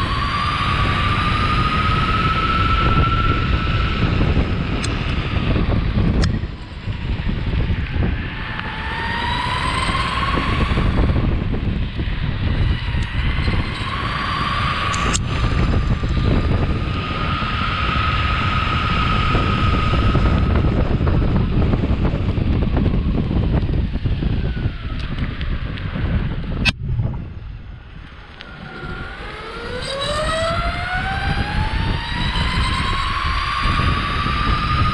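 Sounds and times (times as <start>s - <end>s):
electric motor whine: 0.0s - 26.7s, 27.6s - 34.9s
wheels rumbling on pavement: 0.0s - 34.9s
wind buffeting microphone: 0.0s - 34.9s.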